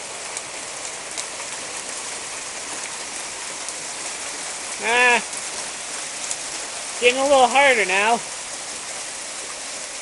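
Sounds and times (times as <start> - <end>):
hail hitting the ground: 0.0 - 10.0.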